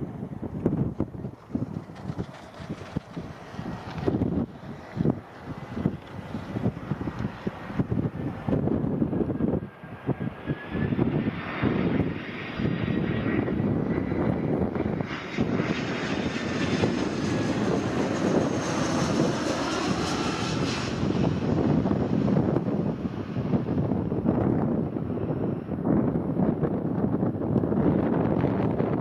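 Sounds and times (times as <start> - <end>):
jet roar flying past: 0.0 - 26.6
wind buffeting microphone: 0.0 - 29.0.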